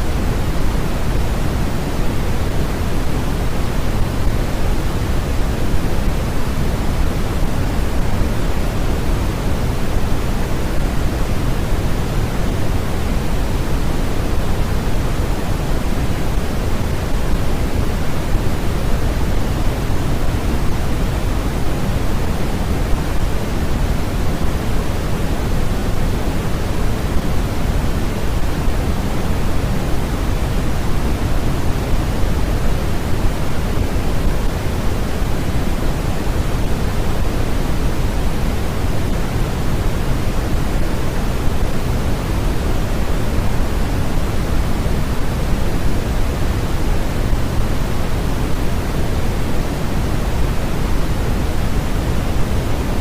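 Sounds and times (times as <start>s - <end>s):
steady generated noise: 0.0s - 53.0s.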